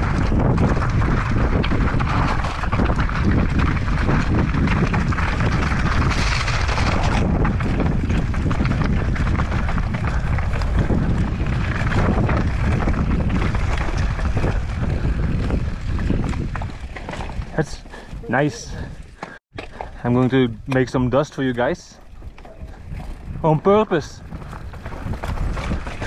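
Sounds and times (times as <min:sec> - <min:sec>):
wind rush on microphone: 0:00.0 - 0:20.0, 0:22.0 - 0:26.0
bike rattling: 0:00.0 - 0:26.0
tyres crunching over gravel: 0:00.0 - 0:26.0.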